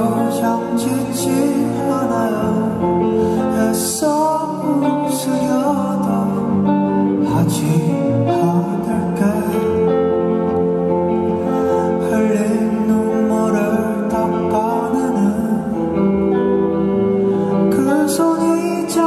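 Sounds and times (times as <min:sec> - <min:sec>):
electric guitar: 0:00.0 - 0:19.0
live band music: 0:00.0 - 0:19.0
man singing: 0:00.0 - 0:19.0.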